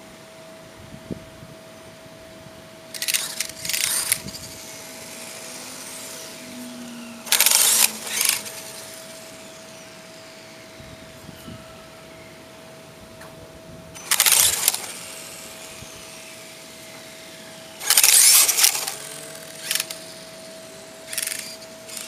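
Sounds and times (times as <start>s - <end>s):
rc truck electric motor whine: 2.9s - 13.0s, 13.9s - 22.0s.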